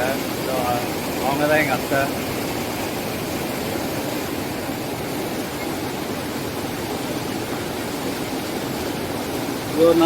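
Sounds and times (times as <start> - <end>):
river water rushing over rocks: 0.0 - 10.0.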